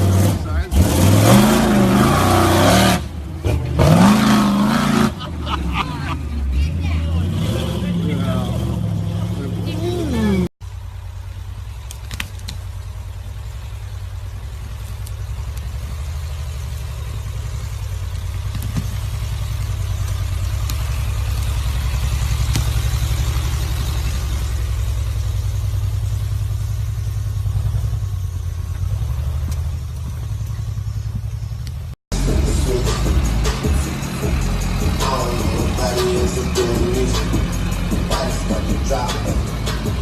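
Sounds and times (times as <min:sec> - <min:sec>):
truck engine rumbling: 0:00.0 - 0:40.0.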